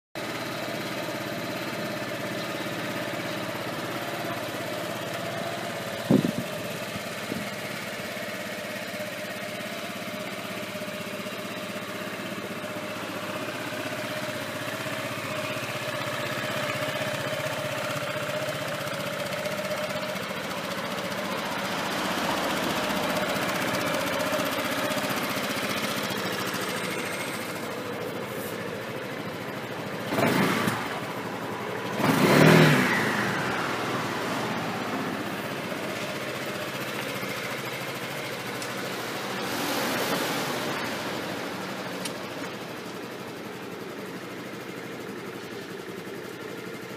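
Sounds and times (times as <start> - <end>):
scooter engine idling: 0.2 - 46.9.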